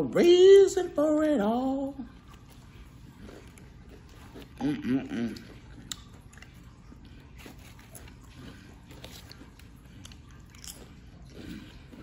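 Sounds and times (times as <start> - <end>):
person chewing crunchy food: 2.0 - 12.0.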